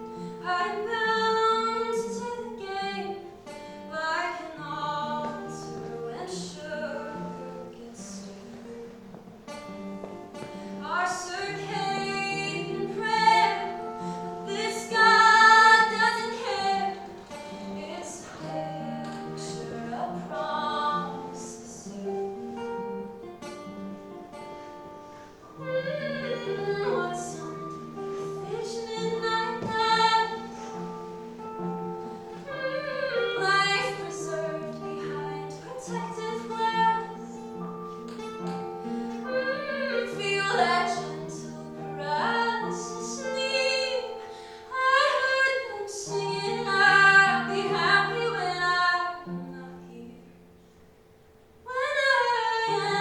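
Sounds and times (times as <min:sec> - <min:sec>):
woman singing: 0:00.0 - 0:23.2, 0:25.4 - 0:50.5, 0:51.6 - 0:53.0
plucked guitar: 0:00.0 - 0:53.0.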